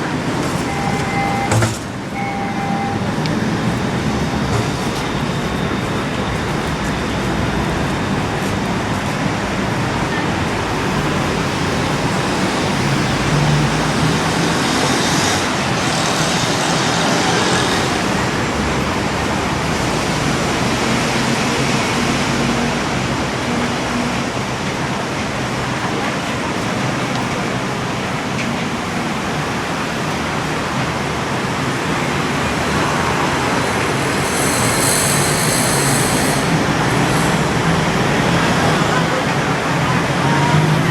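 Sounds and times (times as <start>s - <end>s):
train carriage rumble and hiss: 0.0s - 40.9s.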